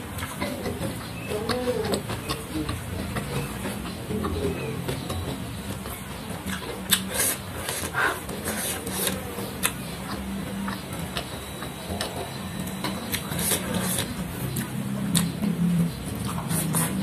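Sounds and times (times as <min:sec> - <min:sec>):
chewing and crunching food: 0:00.0 - 0:17.0
low steady hum: 0:00.0 - 0:17.0.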